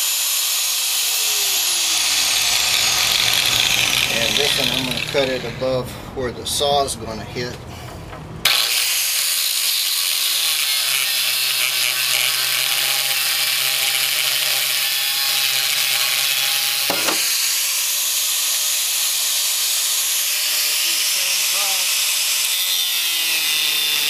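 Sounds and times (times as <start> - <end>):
cutoff wheel grinding steel: 0.0 - 6.1, 8.4 - 24.0.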